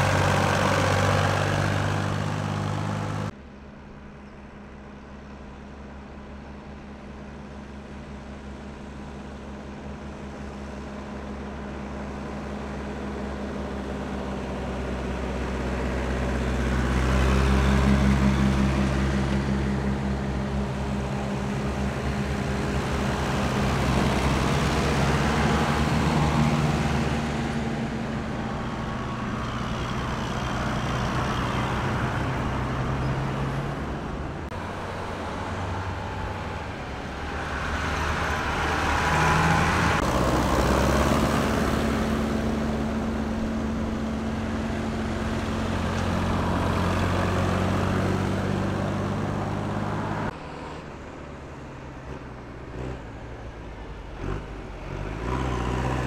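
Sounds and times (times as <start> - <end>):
tractor engines passing: 0.0 - 56.0.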